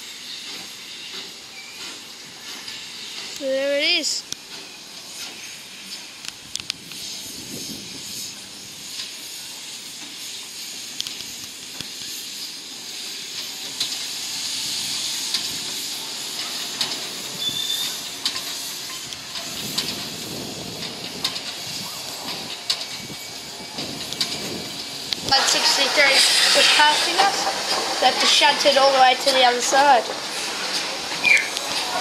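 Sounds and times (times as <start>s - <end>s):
steam locomotive hissing: 0.0s - 32.0s.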